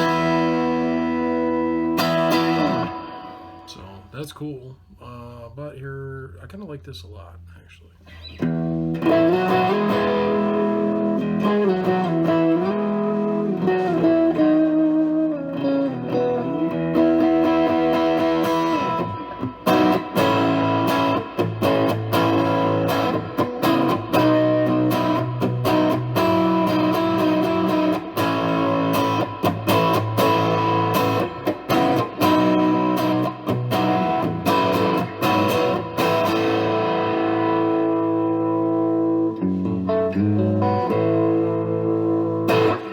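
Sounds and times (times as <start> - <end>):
overdriven electric guitar: 0.0 - 4.0, 8.1 - 42.9.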